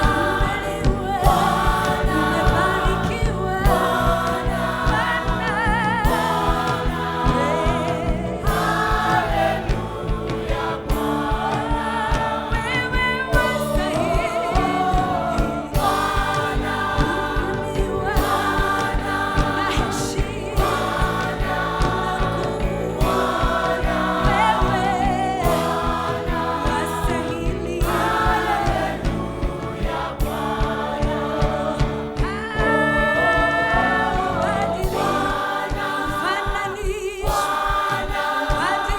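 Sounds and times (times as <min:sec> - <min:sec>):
gospel choir singing: 0:00.0 - 0:38.9.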